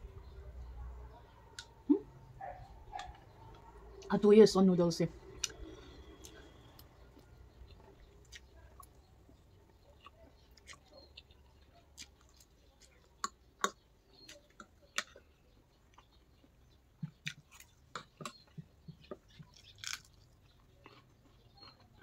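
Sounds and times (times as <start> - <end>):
soft chewing: 0.6 - 4.1, 5.2 - 22.0.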